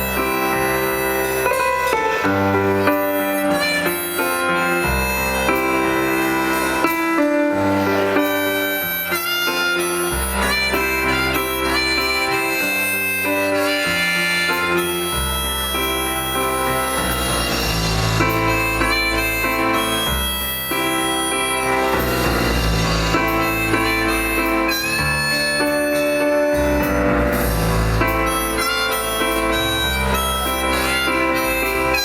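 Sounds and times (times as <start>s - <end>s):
song with bass and melody instruments: 0.0s - 32.0s.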